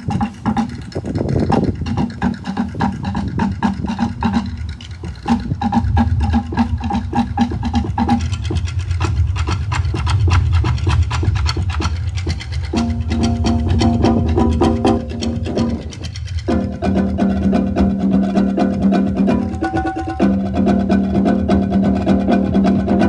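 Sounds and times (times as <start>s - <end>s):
percussion ensemble playing groove: 0.0s - 23.0s.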